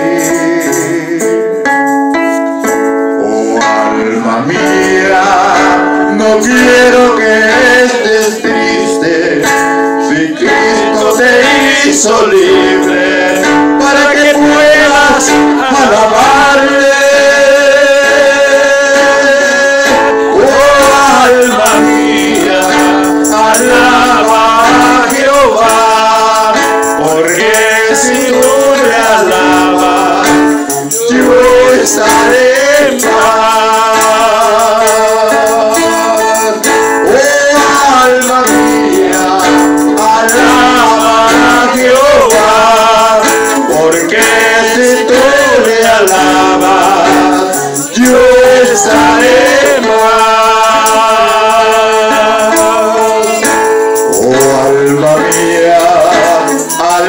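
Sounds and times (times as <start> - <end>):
man singing a hymn: 0.0 - 1.7, 3.1 - 57.0
held instrument notes: 0.0 - 57.0.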